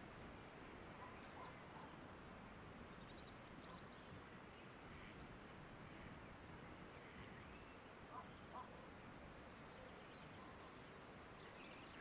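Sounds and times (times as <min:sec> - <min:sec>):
low steady outdoor hush: 0:00.0 - 0:12.0.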